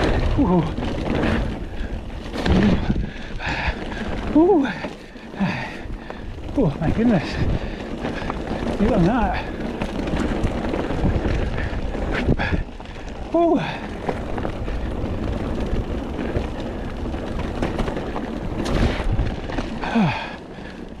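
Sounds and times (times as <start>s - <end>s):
bike knocking over bumps: 0.0s - 21.0s
mountain bike clattering: 0.0s - 21.0s
wind buffeting microphone: 0.0s - 21.0s.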